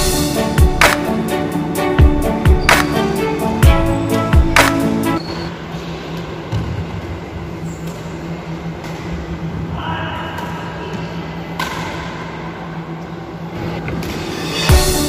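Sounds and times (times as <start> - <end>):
low hum of indoor hall: 0.0 - 15.0.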